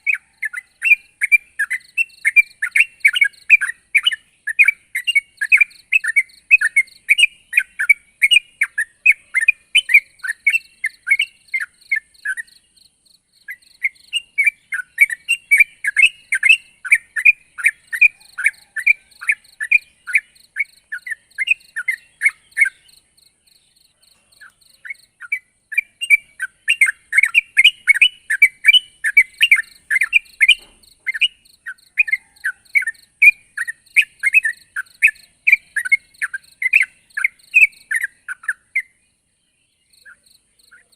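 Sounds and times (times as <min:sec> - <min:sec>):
bulbul singing bubbly chirps: 0:00.0 - 0:39.0.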